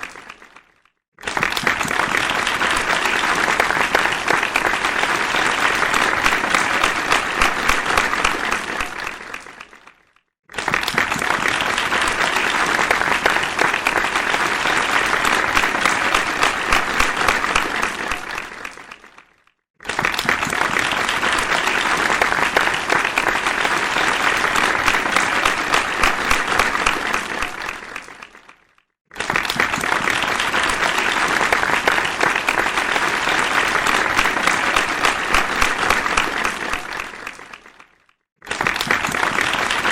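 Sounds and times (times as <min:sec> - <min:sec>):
audience applause: 0:00.0 - 0:39.9.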